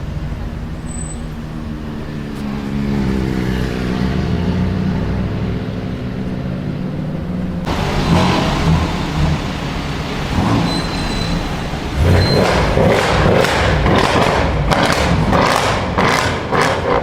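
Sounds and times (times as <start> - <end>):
car exhaust rumbling: 0.0 - 17.0.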